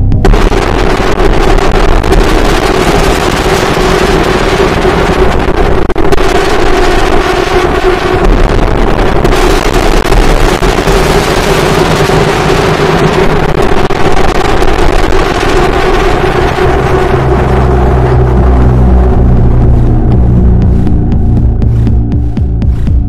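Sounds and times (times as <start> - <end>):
distorted bass-heavy electronic music: 0.0 - 23.0.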